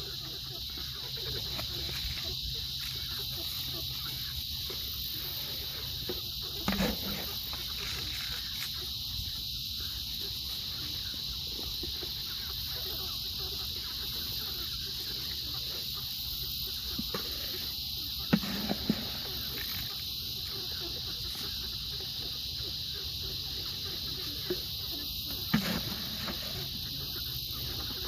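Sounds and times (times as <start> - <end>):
chickens making short sounds: 0.0 - 28.0
insects chorus: 0.0 - 28.0.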